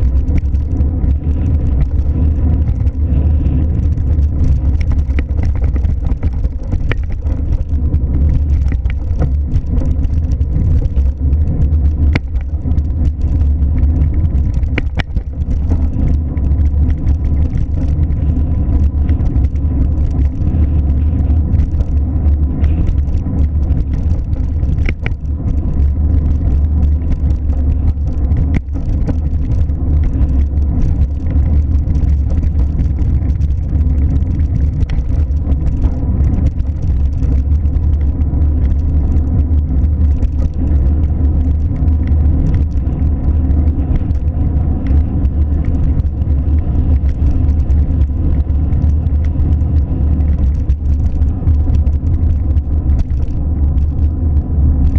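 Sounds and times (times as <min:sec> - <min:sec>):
car engine rumble: 0:00.0 - 0:54.9
faint clicks: 0:00.0 - 0:54.9.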